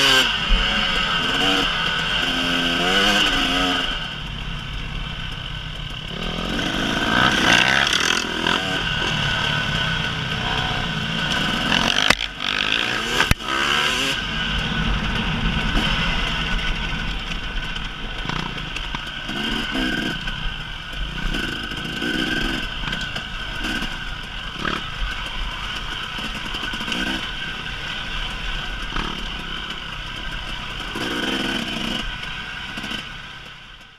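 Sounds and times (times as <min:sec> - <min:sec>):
dirt bike engine revving: 0:00.0 - 0:33.8.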